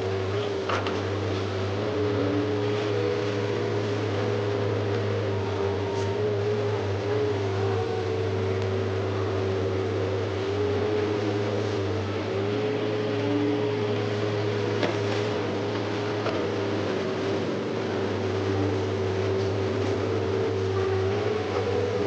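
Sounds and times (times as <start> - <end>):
excavator diesel engine running: 0.0 - 22.0
hydraulic whine: 0.0 - 22.0.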